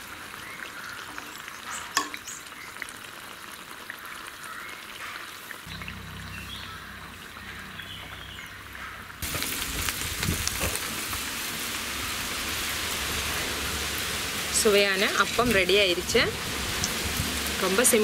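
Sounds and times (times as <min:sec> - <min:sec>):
oil sizzling and bubbling: 0:00.0 - 0:18.0.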